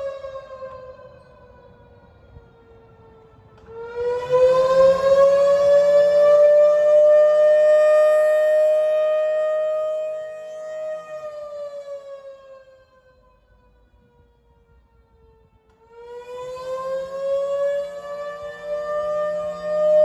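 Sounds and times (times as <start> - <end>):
fire siren wailing: 0.0 - 20.0.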